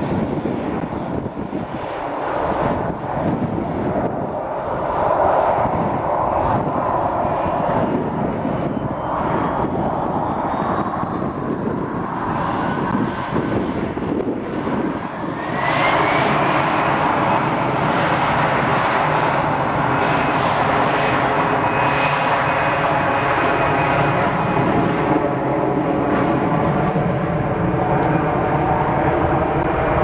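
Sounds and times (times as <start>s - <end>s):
jet engines spooling up: 0.2s - 30.0s.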